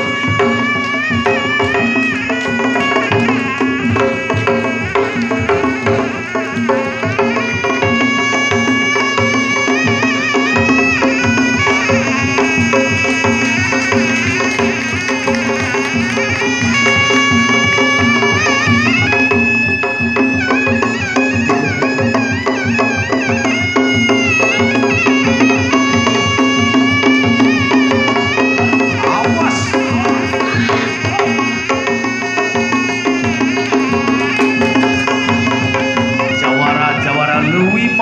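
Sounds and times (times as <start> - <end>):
reed trumpet melody: 0.0 - 38.0
steady drumming: 0.0 - 38.0.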